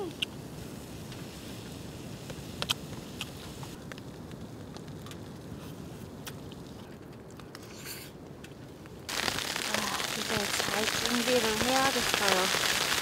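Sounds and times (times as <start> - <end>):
rain pattering on a tent: 1.0 - 7.6, 8.3 - 13.0.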